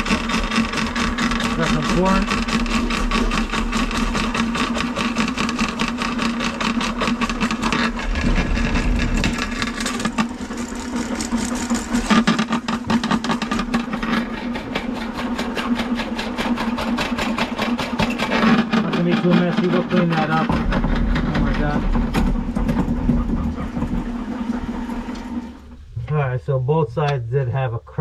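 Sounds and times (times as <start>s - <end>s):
auger cable rattling: 0.0s - 26.1s
drain cleaning motor hum: 0.0s - 27.2s.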